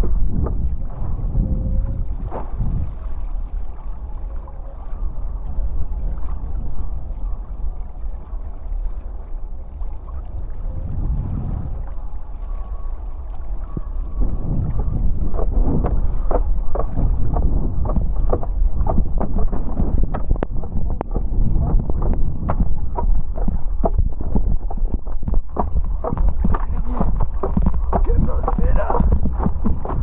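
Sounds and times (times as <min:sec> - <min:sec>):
water splashes and slaps: 0:00.0 - 0:30.0
wind buffeting microphone: 0:00.0 - 0:30.0.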